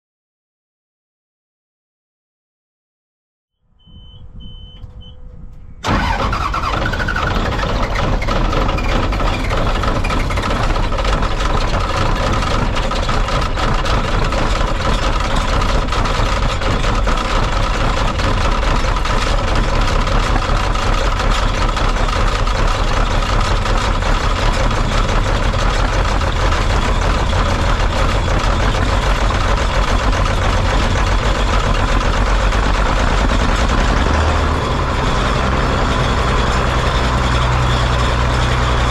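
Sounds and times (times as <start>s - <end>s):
combine harvester running: 4.4s - 38.9s.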